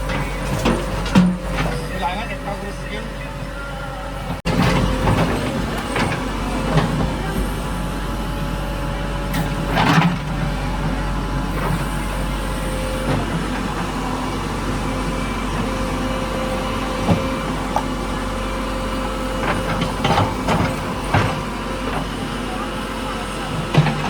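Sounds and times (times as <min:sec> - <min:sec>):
backhoe diesel engine running: 0:00.0 - 0:24.0.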